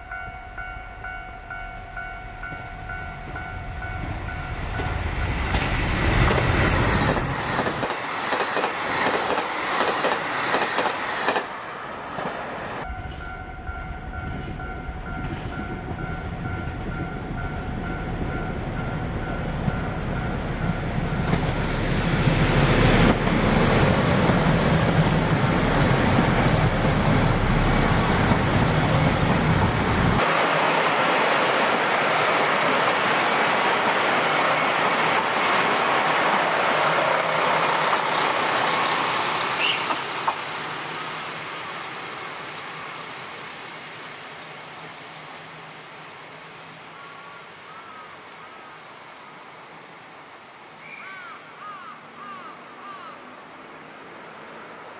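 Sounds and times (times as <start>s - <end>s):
diesel train passing: 0.0s - 54.9s.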